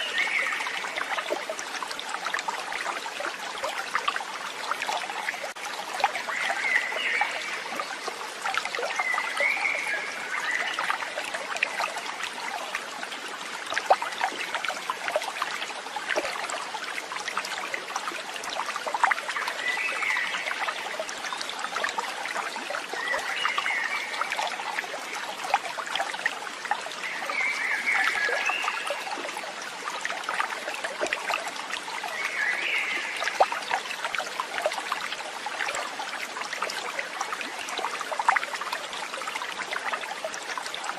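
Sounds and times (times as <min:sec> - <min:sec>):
water trickling and babbling: 0:00.0 - 0:40.9.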